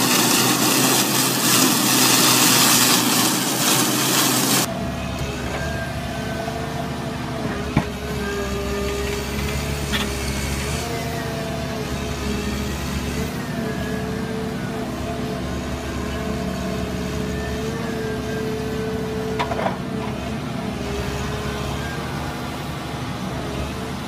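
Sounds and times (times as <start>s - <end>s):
diesel engine running: 0.0s - 24.0s
hydraulic whine: 0.0s - 24.0s
mower cutting grass: 0.0s - 24.0s.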